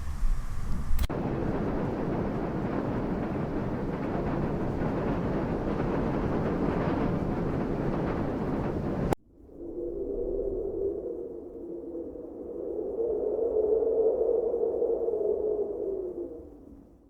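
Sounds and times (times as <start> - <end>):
dense rush of wind: 0.0 - 17.0
gusty low wind rumble: 0.0 - 17.0.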